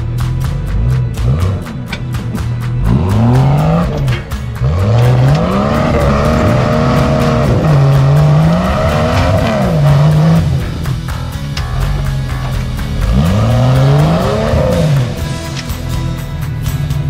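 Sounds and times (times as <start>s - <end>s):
engine revving: 0.0s - 17.0s
music with steady beat: 0.0s - 17.0s.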